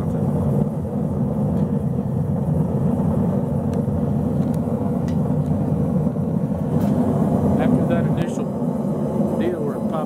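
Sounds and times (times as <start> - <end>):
burner flame rushing: 0.0 - 10.0.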